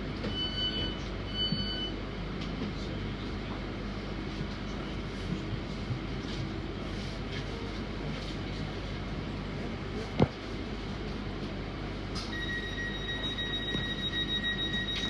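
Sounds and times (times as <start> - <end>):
train low hum: 0.0 - 15.0.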